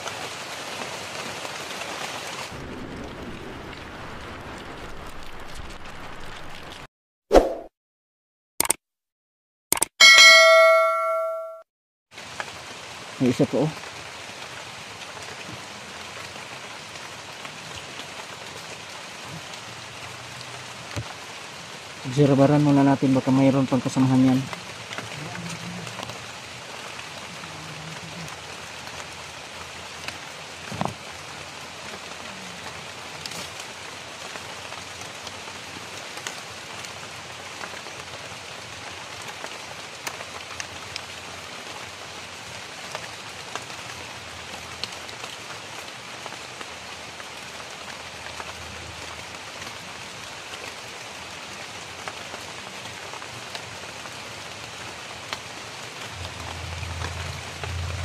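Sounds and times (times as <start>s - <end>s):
rain falling on leaves: 0.0s - 6.9s, 12.1s - 58.0s.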